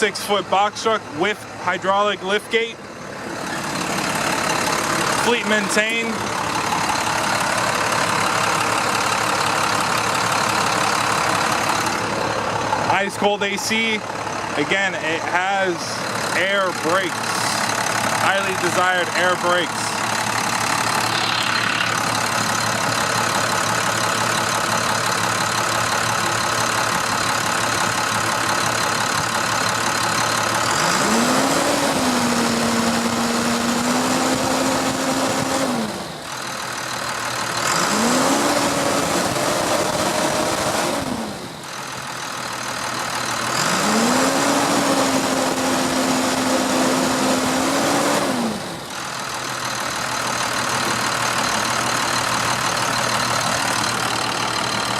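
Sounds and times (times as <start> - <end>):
diesel engine idling and revving: 0.0 - 54.9.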